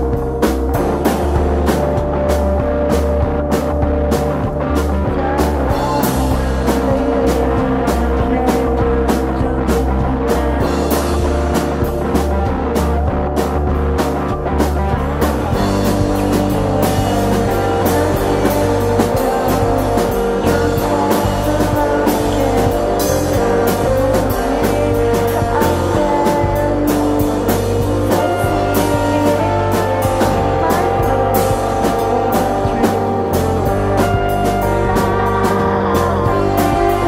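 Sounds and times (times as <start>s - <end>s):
alternative rock instrumental: 0.0s - 37.0s.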